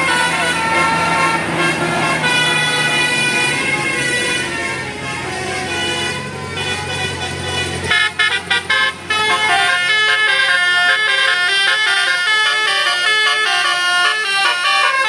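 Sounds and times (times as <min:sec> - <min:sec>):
bus engine low hum: 0:00.0 - 0:15.0
multi-tone bus horn melody: 0:00.0 - 0:15.0.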